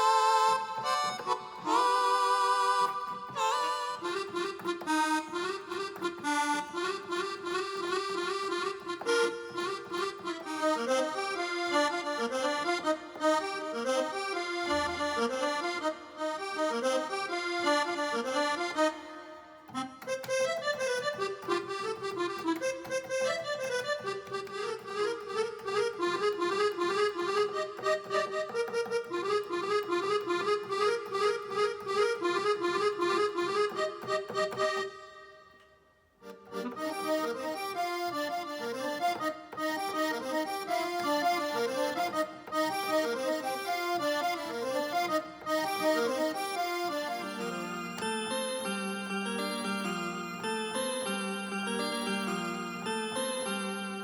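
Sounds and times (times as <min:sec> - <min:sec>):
keyboard accordion melody: 0:00.0 - 0:54.0.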